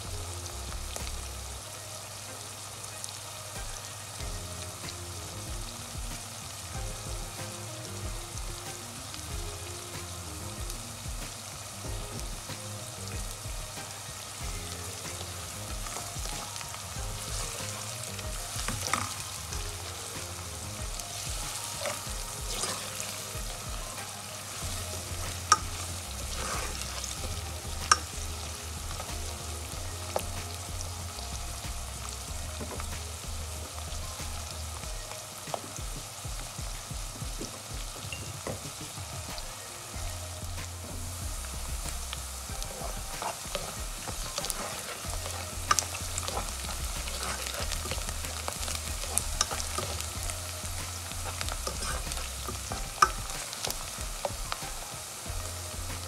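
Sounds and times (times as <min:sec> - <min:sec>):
onions sizzling in oil: 0:00.0 - 0:56.0
spatula stirring: 0:03.7 - 0:36.6, 0:38.4 - 0:56.0.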